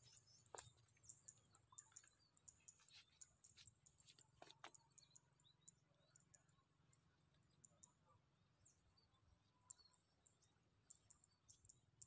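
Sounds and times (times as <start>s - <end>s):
faint high bird chirps: 0.0s - 6.7s, 7.3s - 12.0s.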